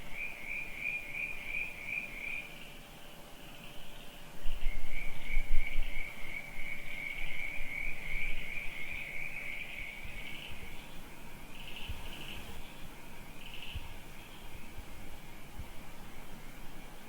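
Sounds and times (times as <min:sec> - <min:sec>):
crickets trilling: 0:00.0 - 0:16.6.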